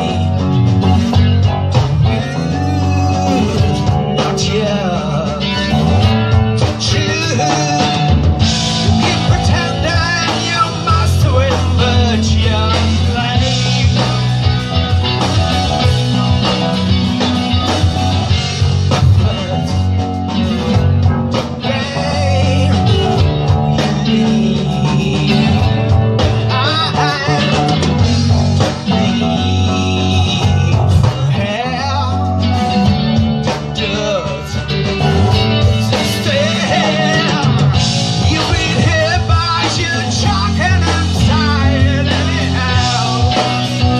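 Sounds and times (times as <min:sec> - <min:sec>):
live rock band playing: 0:00.0 - 0:43.9
person singing: 0:01.8 - 0:17.8, 0:18.9 - 0:28.0, 0:28.6 - 0:43.9.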